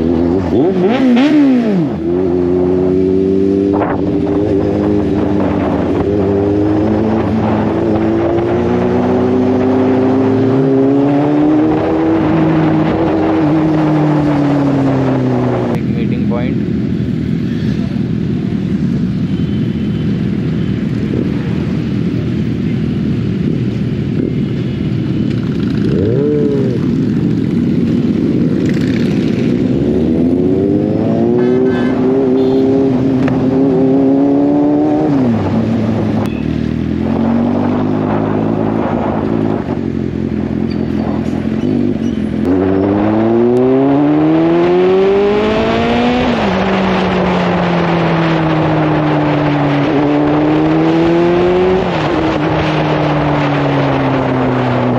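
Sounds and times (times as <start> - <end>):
motorcycle engine accelerating: 0.0 - 54.9
other motorcycles rumbling: 0.0 - 54.9.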